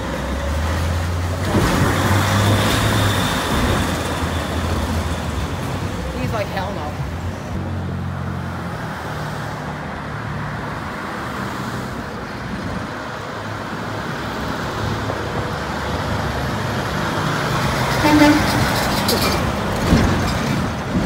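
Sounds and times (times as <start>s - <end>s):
cars passing: 0.0s - 21.0s
heavy diesel truck engine: 0.0s - 21.0s.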